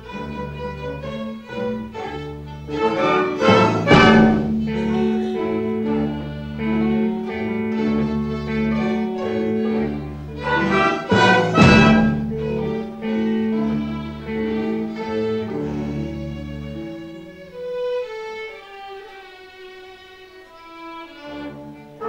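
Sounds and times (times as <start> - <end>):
orchestra strings playing: 0.0 - 22.0.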